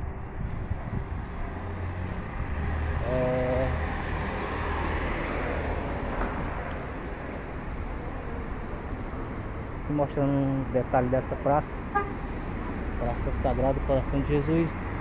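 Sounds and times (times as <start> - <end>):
low traffic rumble: 0.0 - 15.0
car passing: 0.8 - 15.0.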